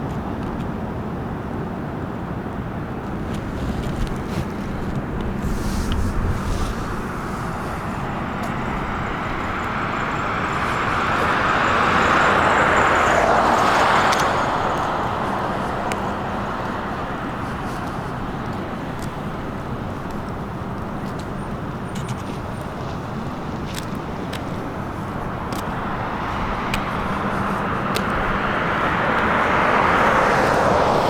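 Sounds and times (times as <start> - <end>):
car passing on road: 3.0 - 31.0.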